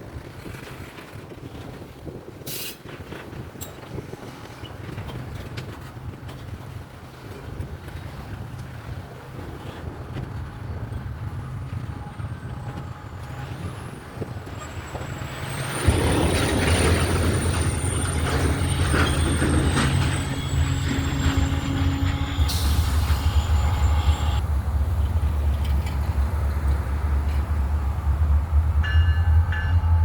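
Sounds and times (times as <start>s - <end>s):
rushing rail and wheel noise: 0.0s - 30.0s
locomotive engine rumble: 4.2s - 30.0s.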